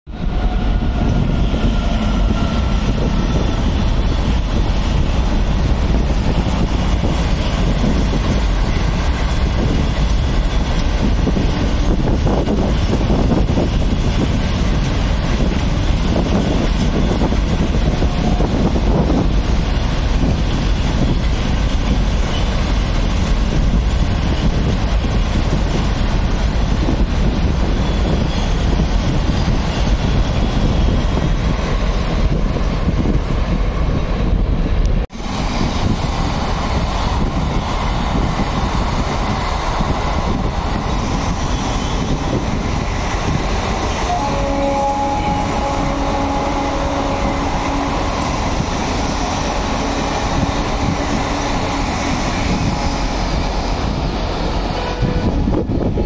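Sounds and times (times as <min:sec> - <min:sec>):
commuter train passing at speed: 0:00.1 - 0:56.0
freight train wheels rumbling: 0:00.1 - 0:56.0.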